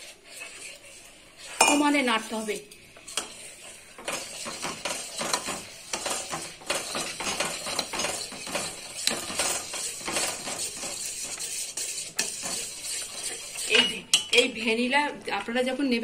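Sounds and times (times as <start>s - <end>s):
metal spoon scraping steel bowl: 0.0s - 14.6s.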